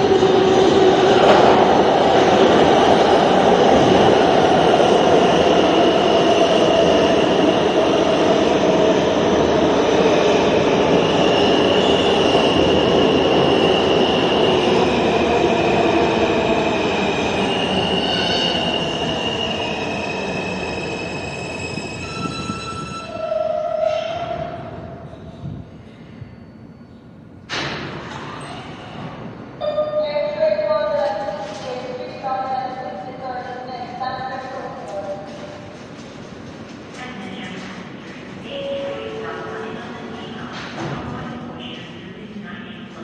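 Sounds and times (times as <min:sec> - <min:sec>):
subway train rumbling on rails: 0:00.0 - 0:43.0.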